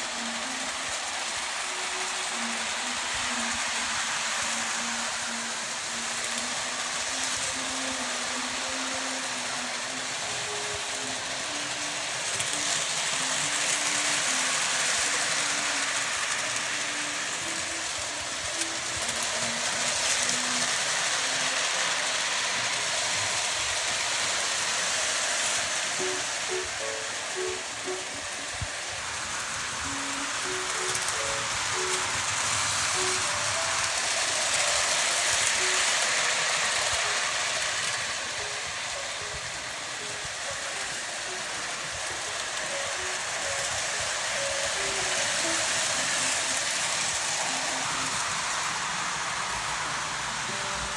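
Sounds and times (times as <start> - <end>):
faint tune: 0.0 - 50.9
model train wheels rattling on rails: 0.0 - 50.9.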